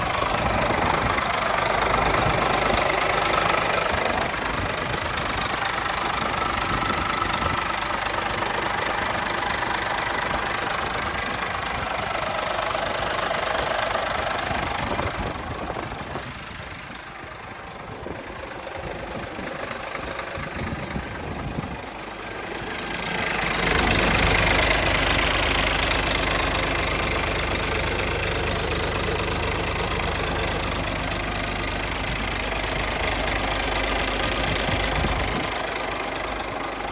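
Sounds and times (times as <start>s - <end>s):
diesel truck idling: 0.0s - 36.9s.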